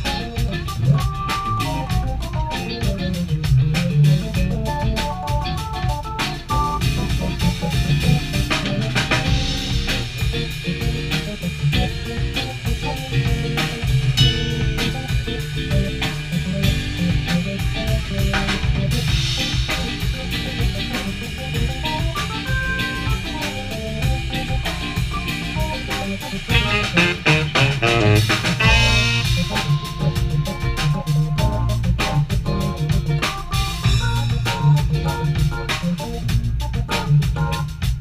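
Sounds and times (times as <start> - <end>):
jazz-funk band playing: 0.0 - 38.0.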